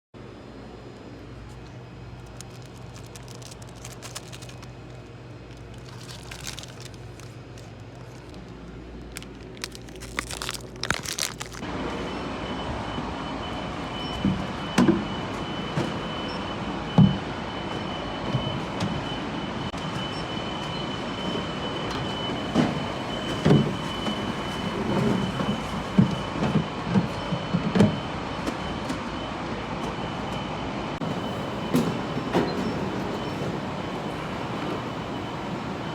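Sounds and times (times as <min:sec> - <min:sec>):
vehicle running noise from inside: 0:00.2 - 0:35.9.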